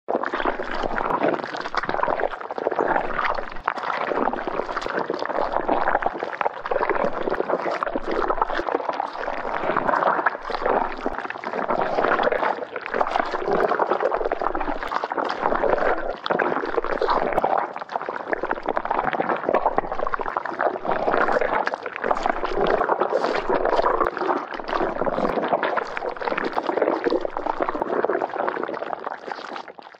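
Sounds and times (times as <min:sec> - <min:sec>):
wet squelching of slime: 0:00.2 - 0:29.9.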